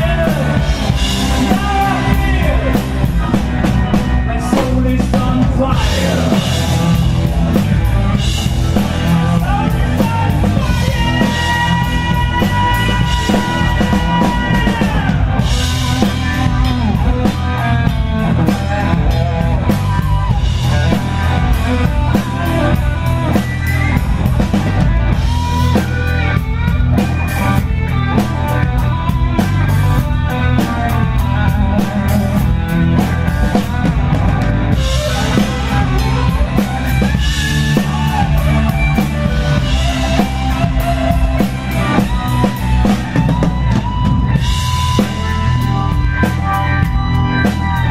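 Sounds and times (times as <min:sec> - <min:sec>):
drum kit beat: 0:00.0 - 0:47.9
electric guitar bending notes: 0:00.0 - 0:47.9.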